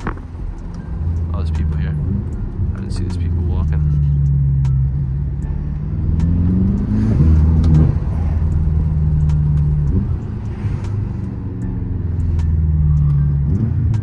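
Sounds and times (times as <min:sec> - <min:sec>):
car engine and exhaust: 0:00.0 - 0:14.0.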